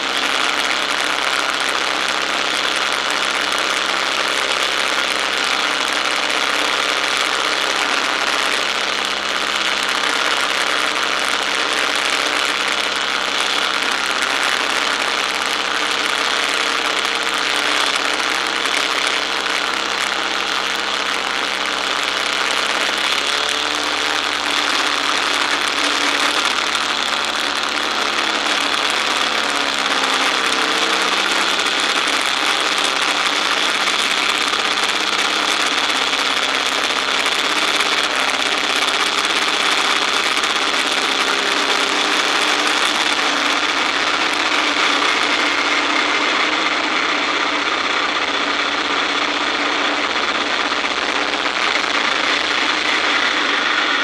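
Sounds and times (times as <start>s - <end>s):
propeller plane engine in flight: 0.0s - 54.0s.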